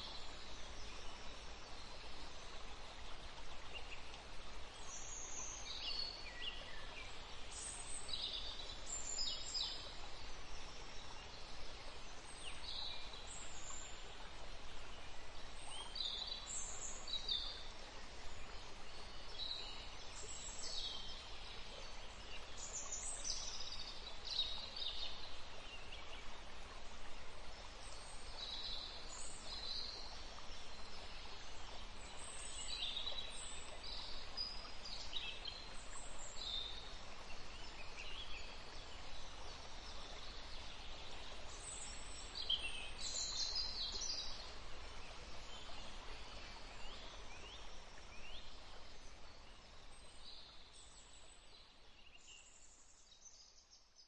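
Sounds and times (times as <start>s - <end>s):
steady background hiss: 0.0s - 53.8s.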